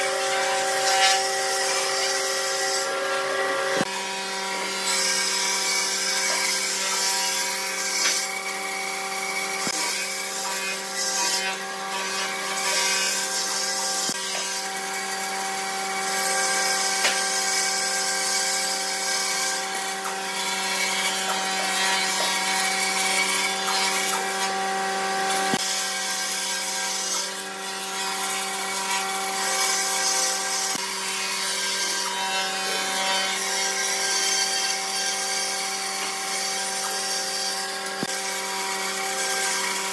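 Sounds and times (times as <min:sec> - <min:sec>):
band saw motor hum: 0:00.0 - 0:39.9.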